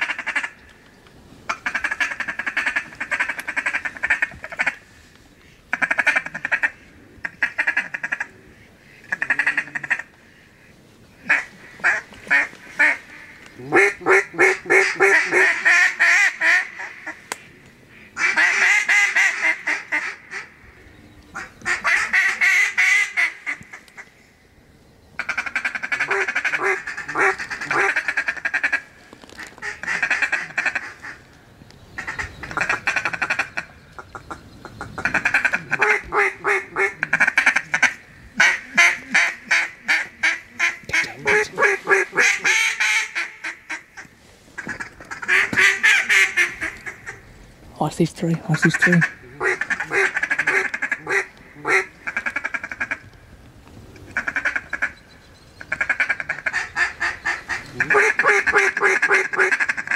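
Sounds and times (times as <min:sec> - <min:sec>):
duck calls quacking: 0:01.5 - 0:04.8, 0:05.7 - 0:08.3, 0:08.9 - 0:10.1, 0:11.2 - 0:20.5, 0:21.4 - 0:23.8, 0:25.2 - 0:28.8, 0:29.4 - 0:31.2, 0:32.0 - 0:34.4, 0:35.0 - 0:47.2, 0:48.4 - 0:53.0, 0:54.2 - 0:55.0, 0:55.7 - 0:59.9.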